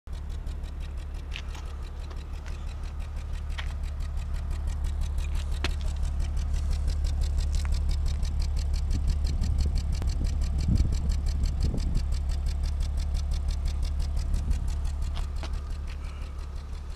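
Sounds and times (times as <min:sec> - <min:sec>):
car engine idling roughly: 0:00.1 - 0:16.9
sharp ticks: 0:00.1 - 0:16.9.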